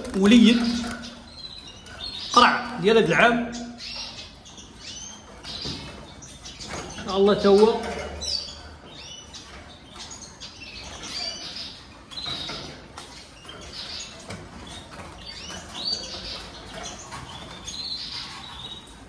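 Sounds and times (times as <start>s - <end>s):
finches chirping: 0.0s - 19.0s.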